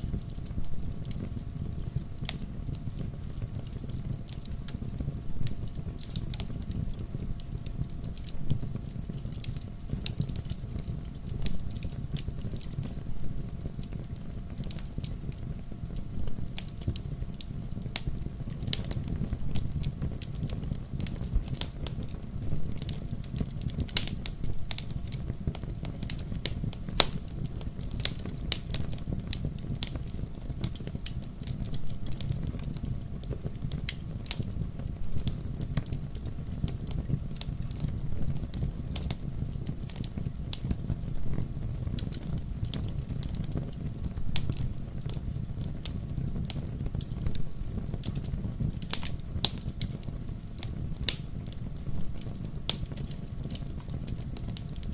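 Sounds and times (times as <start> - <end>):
bonfire crackling and popping: 0.0 - 54.9
low rumble of flames: 0.0 - 54.9.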